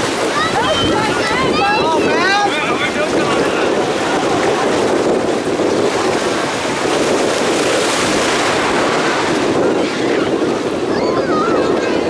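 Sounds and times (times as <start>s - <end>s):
small waves washing: 0.0s - 12.0s
wind buffeting microphone: 0.0s - 12.0s.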